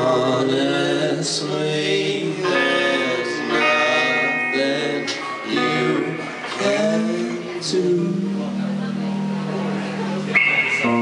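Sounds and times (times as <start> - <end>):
man singing into a microphone: 0.0 - 9.1
strummed guitars: 0.0 - 11.0.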